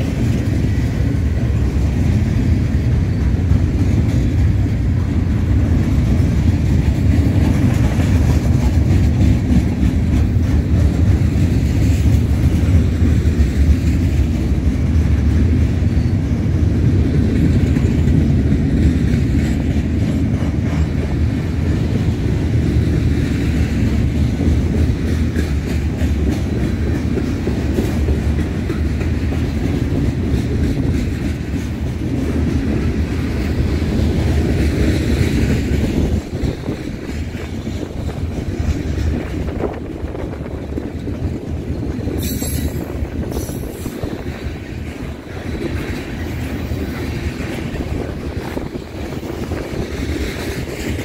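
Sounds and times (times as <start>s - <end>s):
freight train rumbling past: 0.0s - 51.0s
wheel clatter on rails: 0.0s - 51.0s.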